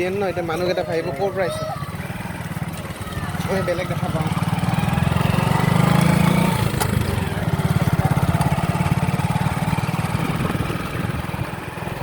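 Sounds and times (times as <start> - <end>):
motorcycle engine pulsing: 0.0 - 12.0.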